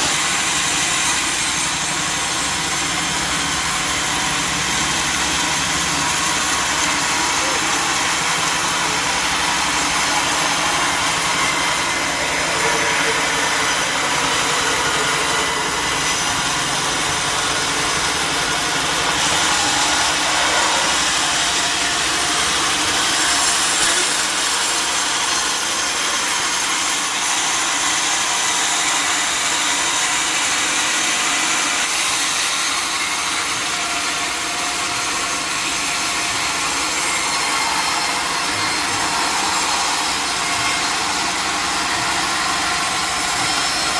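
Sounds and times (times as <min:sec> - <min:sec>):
saw cutting timber: 0:00.0 - 0:43.9.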